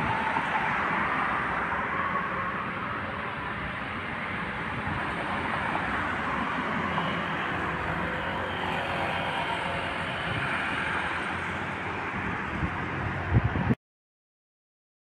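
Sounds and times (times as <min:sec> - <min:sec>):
cars driving past: 0:00.0 - 0:13.8.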